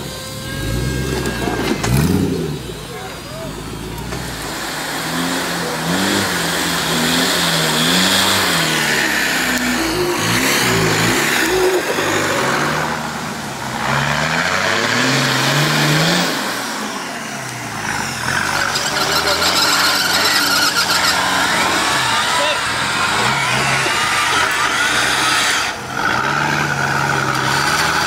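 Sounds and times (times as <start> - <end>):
off-road engines revving: 0.0 - 28.0.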